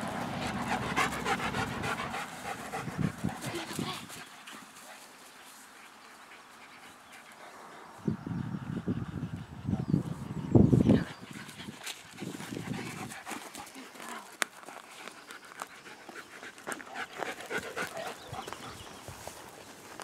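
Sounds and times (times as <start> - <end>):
dog panting: 0.0 - 19.6.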